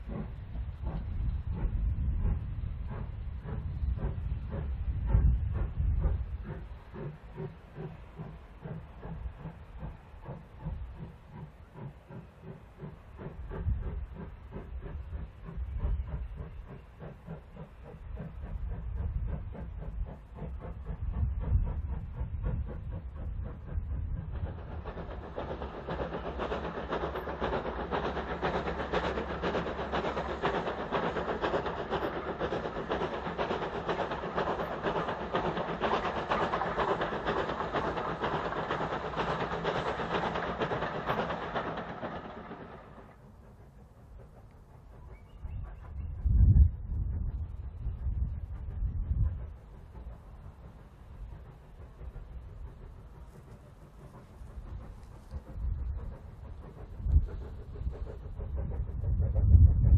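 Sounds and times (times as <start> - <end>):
distant train rumble: 0.0 - 59.9
steam hissing: 0.0 - 59.9
steam locomotive exhaust chuffing: 0.0 - 59.9.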